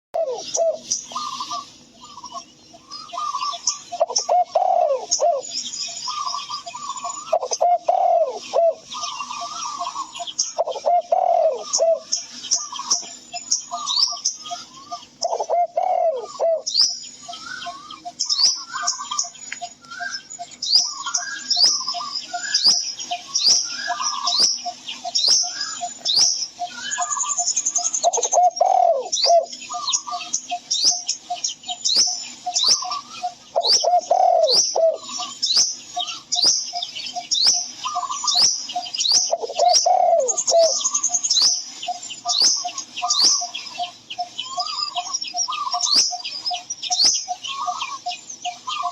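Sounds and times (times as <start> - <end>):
dove cooing: 0.2 - 31.8, 32.4 - 48.9
small birds chirping: 0.2 - 48.9.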